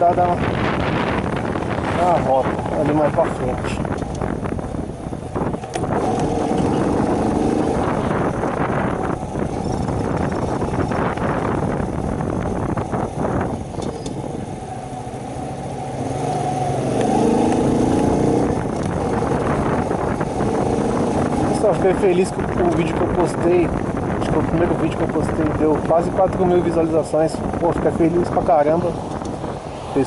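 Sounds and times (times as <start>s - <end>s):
motorcycle engine running: 0.0s - 29.6s
wind noise on microphone: 0.0s - 30.0s.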